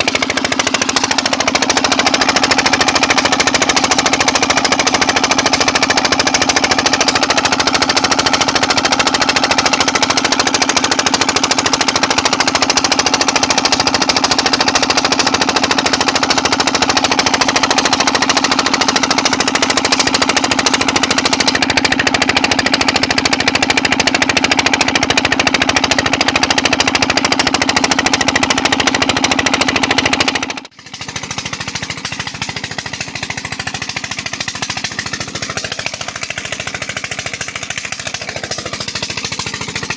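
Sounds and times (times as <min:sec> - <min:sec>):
diesel engine hammering: 0:00.0 - 0:39.9.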